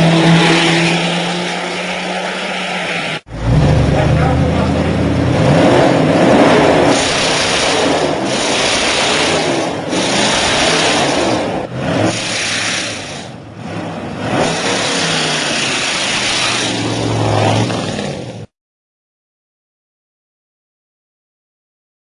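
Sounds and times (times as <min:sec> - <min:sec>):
car engine revving: 0:00.0 - 0:18.5.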